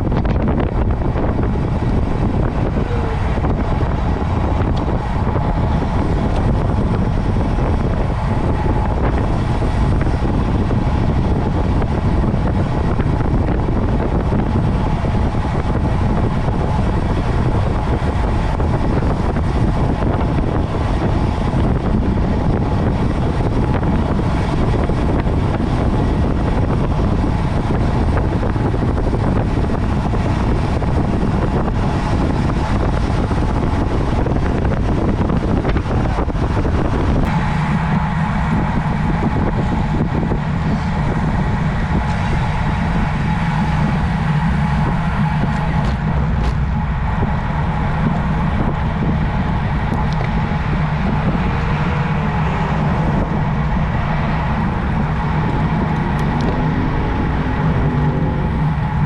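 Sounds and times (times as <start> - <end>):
low hum: 0.0 - 59.0
road noise from bike: 0.0 - 59.0
wind rush: 0.0 - 59.0.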